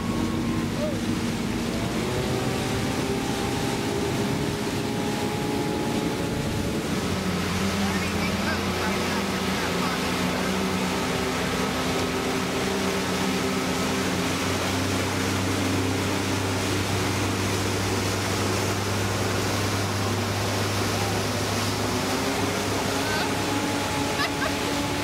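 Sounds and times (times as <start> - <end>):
motorboat engine running: 0.0 - 25.0
rush of wind and water: 0.0 - 25.0.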